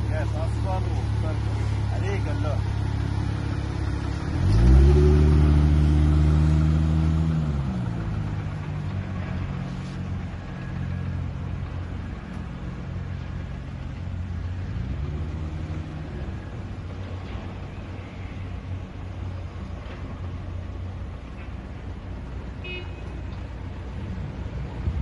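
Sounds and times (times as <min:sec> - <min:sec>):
car engine pulling away: 0:00.0 - 0:22.6.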